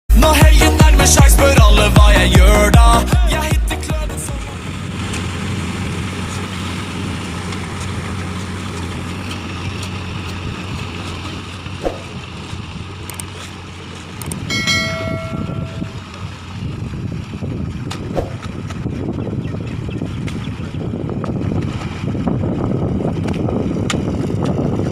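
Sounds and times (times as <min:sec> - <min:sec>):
tractor diesel engine running: 0:00.1 - 0:24.9.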